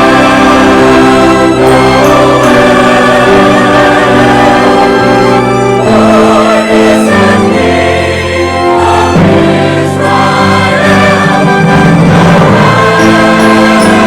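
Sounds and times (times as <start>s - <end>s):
choir singing with orchestra: 0.0s - 14.0s.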